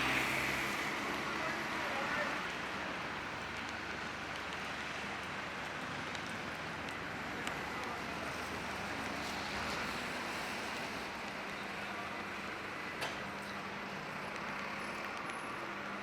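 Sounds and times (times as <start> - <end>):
rain on a wet street: 0.0 - 16.0.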